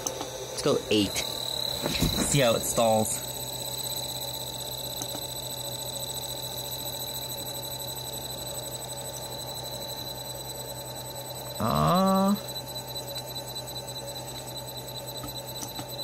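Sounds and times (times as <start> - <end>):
electric motor hum with whine: 0.0 - 16.0.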